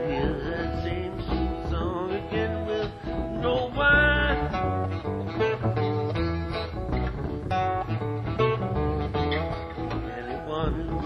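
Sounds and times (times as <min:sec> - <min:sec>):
acoustic guitar picking and strumming: 0:00.0 - 0:11.0.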